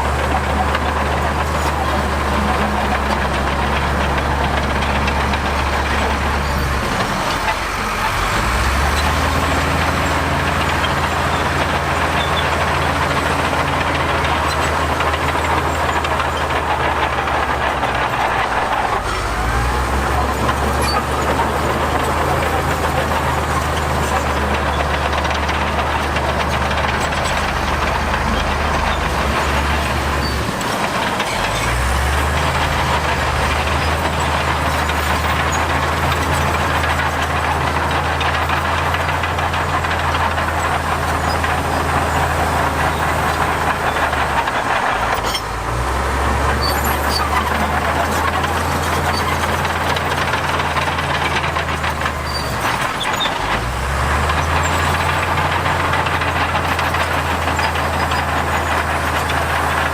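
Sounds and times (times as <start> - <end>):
diesel machinery engine: 0.0 - 59.9.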